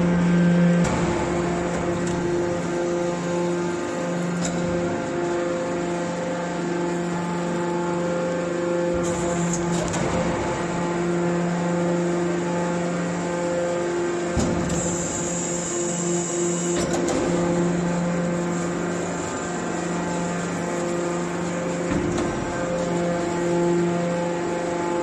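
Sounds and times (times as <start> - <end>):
baler pump motor humming: 0.0 - 25.0.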